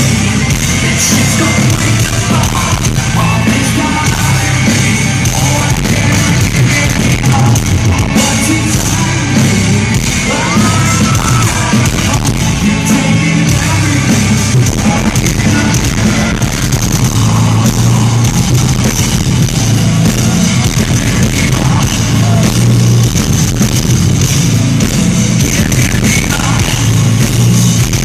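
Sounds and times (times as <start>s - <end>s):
person singing: 0.0s - 18.7s, 19.7s - 22.8s, 25.4s - 27.2s
live heavy metal band: 0.0s - 28.0s.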